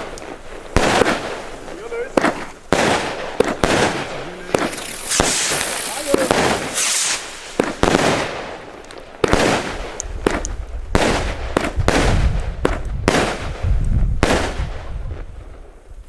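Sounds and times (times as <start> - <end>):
firework bangs: 0.0 - 15.8
crackling hiss of firework bursts: 0.0 - 16.0.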